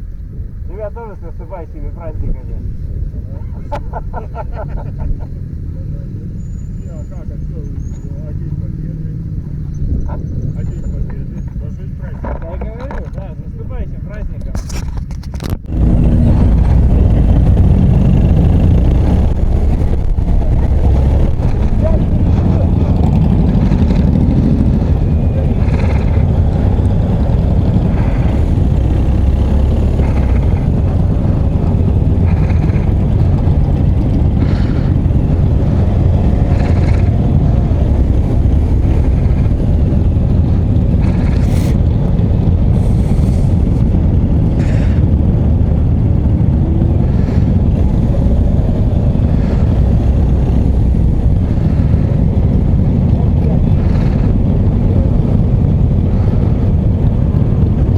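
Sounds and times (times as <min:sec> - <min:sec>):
motorcycle engine drone: 0:00.0 - 0:57.9
wind rumble on microphone: 0:00.0 - 0:57.9.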